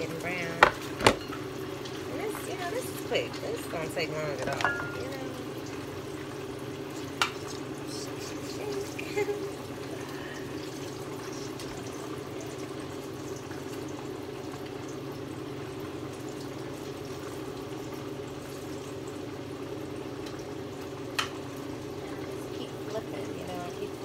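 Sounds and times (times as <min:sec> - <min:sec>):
fish frying in hot oil: 0:00.0 - 0:24.0
range hood blower humming: 0:00.0 - 0:24.0.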